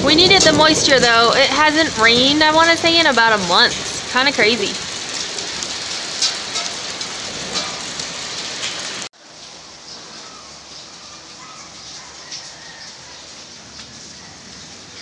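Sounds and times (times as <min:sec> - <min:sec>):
hail and rain on brick patio: 0:00.0 - 0:15.0
rain pattering: 0:00.0 - 0:15.0.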